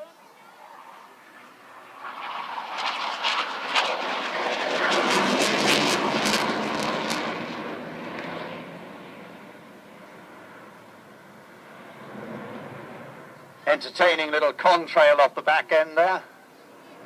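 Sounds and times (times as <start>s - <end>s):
jet engine roar: 0.0s - 17.0s
jet engine crackles: 0.6s - 15.5s.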